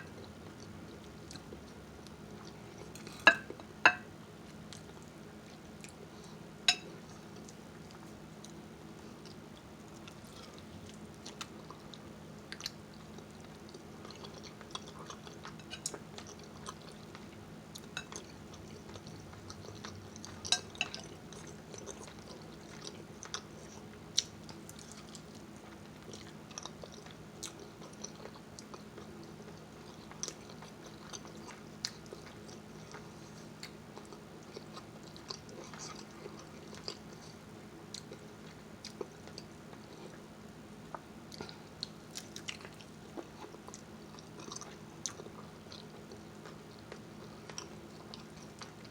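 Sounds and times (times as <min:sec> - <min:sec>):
steady low hum: 0:00.0 - 0:48.9
person chewing: 0:06.7 - 0:40.2, 0:40.9 - 0:48.9.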